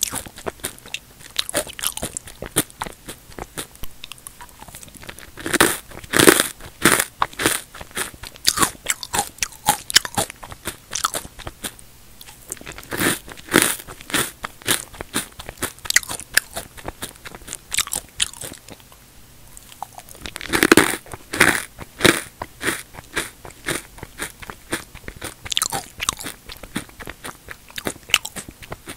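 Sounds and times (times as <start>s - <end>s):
crunching and chewing chips: 0.0s - 28.9s.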